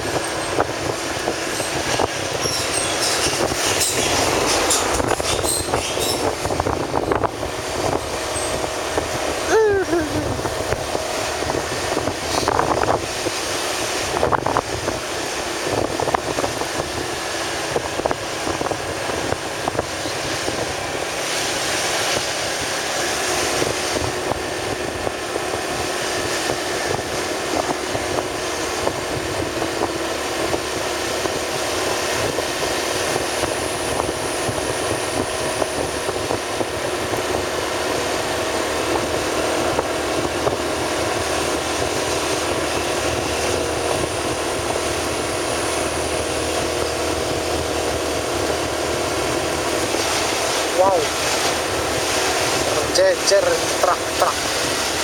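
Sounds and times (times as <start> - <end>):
road noise: 0.0 - 55.0
vehicle engine: 0.0 - 55.0.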